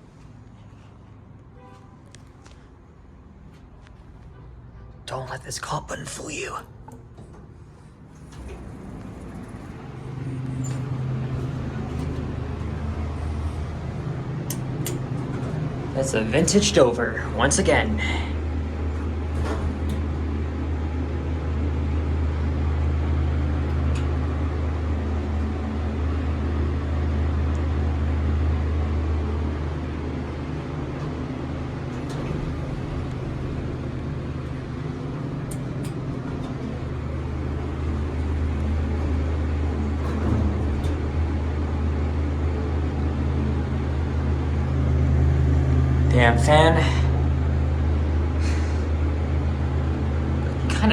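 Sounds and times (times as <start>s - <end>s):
ventilation fan low hum: 0.0s - 50.9s.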